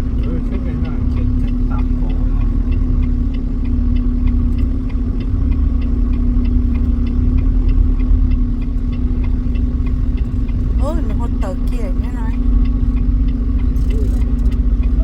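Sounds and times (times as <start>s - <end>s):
truck engine idling: 0.0s - 15.0s
light regular ticking: 1.3s - 15.0s.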